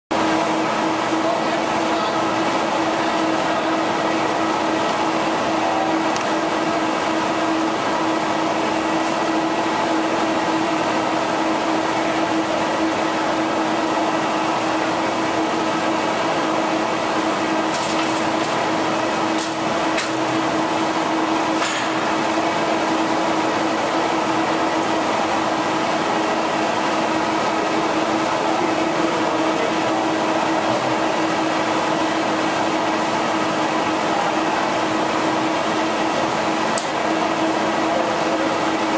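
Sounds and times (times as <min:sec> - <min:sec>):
printer mechanical hum: 0:00.1 - 0:38.9.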